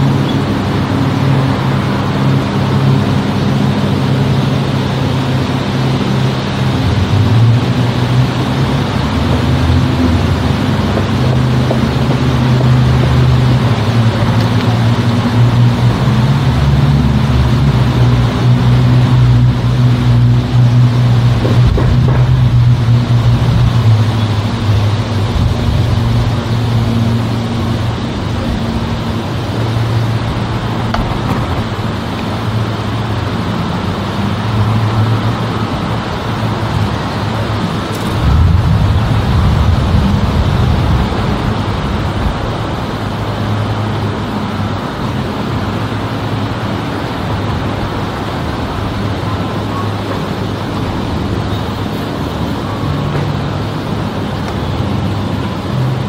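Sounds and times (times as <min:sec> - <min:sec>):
distant propeller plane drone: 0:00.0 - 0:56.0.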